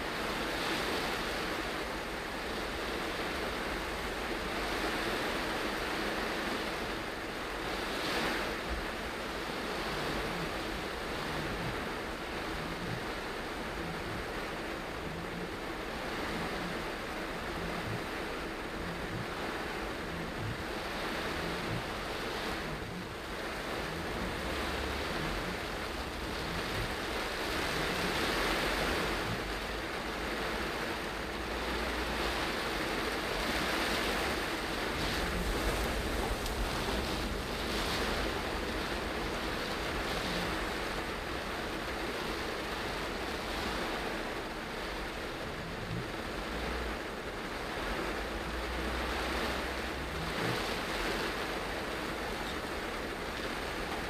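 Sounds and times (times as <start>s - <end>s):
heavy rain on a car: 0.0s - 54.0s
tyres on wet road: 0.0s - 54.0s.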